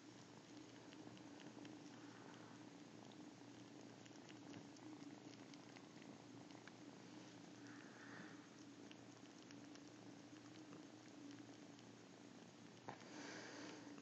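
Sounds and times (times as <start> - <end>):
cat snoring softly: 0.0 - 14.0.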